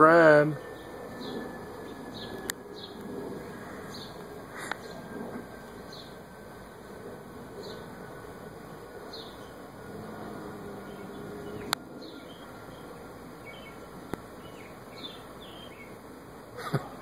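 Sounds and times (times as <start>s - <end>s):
steady background hiss: 0.0s - 17.0s
small birds chirping: 0.4s - 6.3s, 7.5s - 8.3s, 8.9s - 16.1s.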